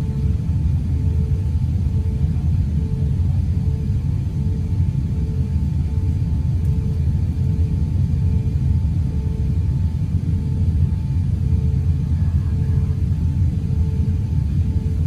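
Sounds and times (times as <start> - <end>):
faint pulsing tone: 0.0 - 15.0
faint steady hum: 0.0 - 15.0
low cabin rumble: 0.0 - 15.0.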